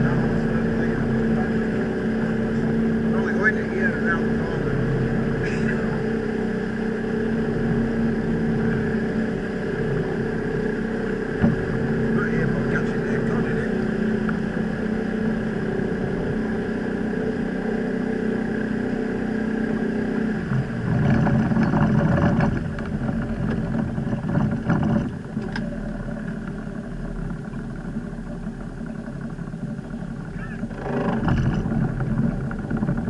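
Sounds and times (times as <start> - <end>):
outboard motor running: 0.0 - 33.0
water rushing: 0.0 - 33.0.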